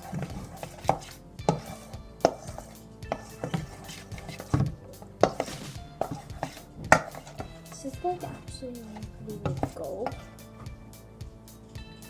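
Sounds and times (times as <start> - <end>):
utensil scraping a container: 0.0 - 10.8.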